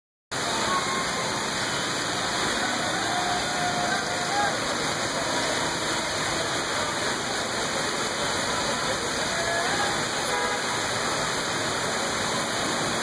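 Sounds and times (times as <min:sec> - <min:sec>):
heavy rain hissing: 0:00.4 - 0:13.0.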